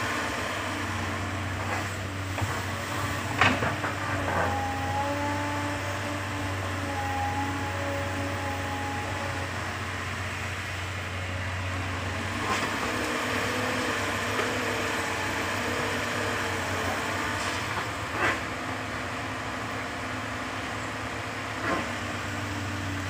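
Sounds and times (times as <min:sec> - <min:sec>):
excavator engine whining: 0:00.0 - 0:23.0.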